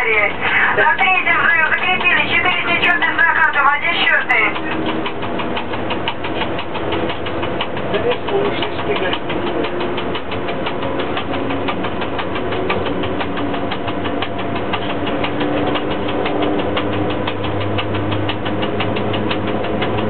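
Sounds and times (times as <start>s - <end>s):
fast even knocking: 0.0s - 20.0s
locomotive running noise: 0.0s - 20.0s
low hum: 0.0s - 20.0s.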